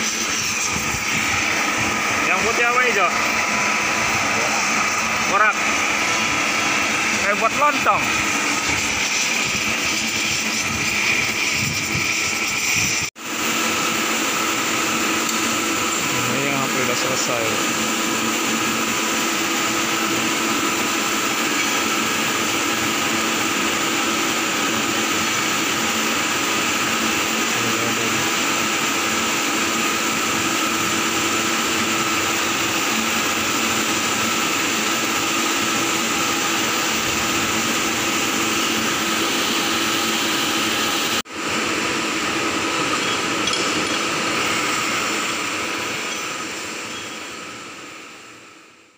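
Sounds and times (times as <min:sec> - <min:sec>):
machine whooshing hum: 0:00.0 - 0:48.8.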